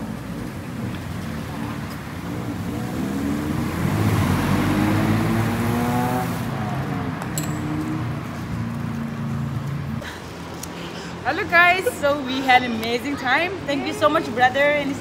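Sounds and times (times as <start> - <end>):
street traffic: 0.0 - 15.0
vehicle passing by: 0.4 - 12.6.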